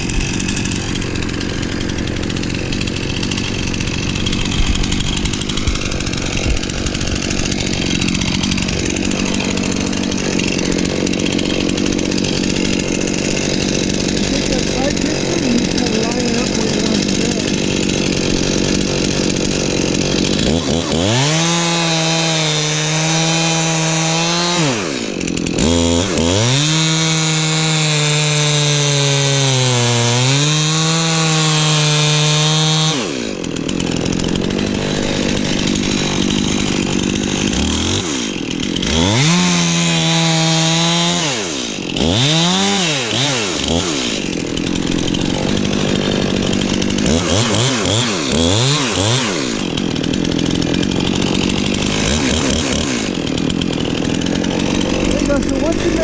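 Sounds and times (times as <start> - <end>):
chainsaw cutting into tree trunk: 0.0 - 56.0.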